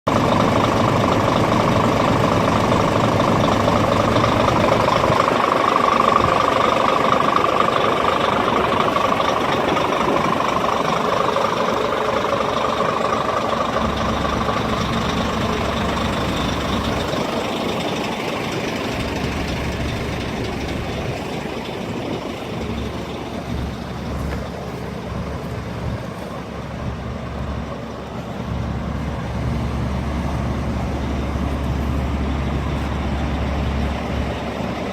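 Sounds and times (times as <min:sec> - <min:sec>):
truck diesel engine whining: 0:00.0 - 0:34.9.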